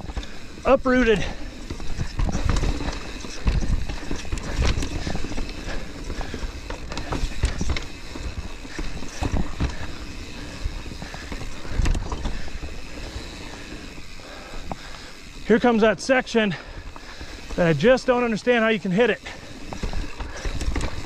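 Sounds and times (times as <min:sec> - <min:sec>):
bike knocks and rattles: 0:00.0 - 0:15.6, 0:19.0 - 0:21.0.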